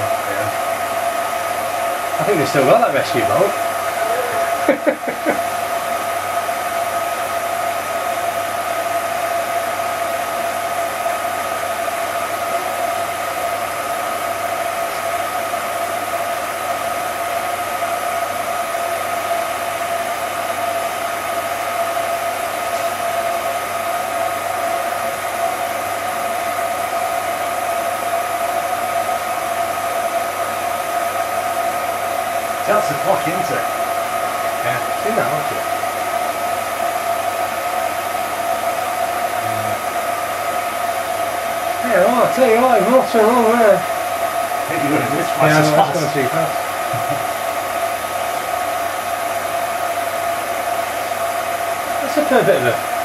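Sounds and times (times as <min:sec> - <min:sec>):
film projector running: 0:00.0 - 0:53.0.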